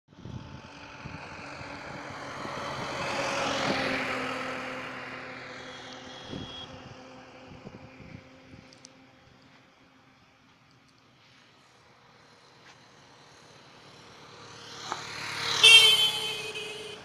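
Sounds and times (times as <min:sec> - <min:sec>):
vehicle passing by: 0:00.2 - 0:09.9, 0:11.2 - 0:17.0.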